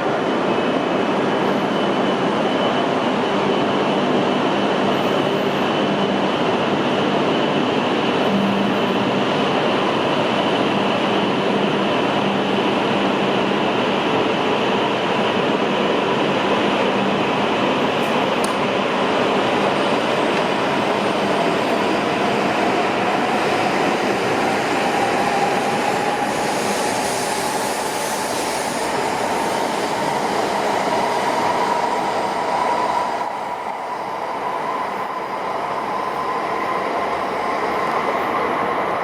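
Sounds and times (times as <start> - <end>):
train running noise: 0.0 - 39.0.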